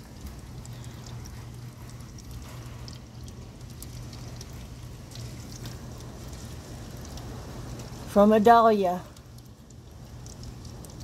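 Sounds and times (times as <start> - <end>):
low steady hum: 0.0 - 11.0
raindrops tapping: 0.0 - 11.0
steady rain: 0.0 - 11.0.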